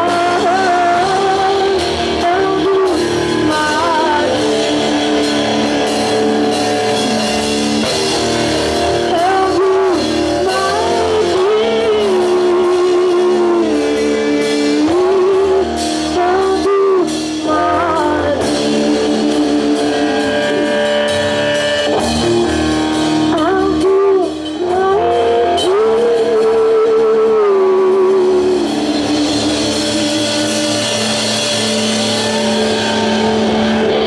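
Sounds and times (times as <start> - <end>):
woman singing: 0.0 - 21.0, 23.2 - 31.5
rock band playing: 0.0 - 34.0.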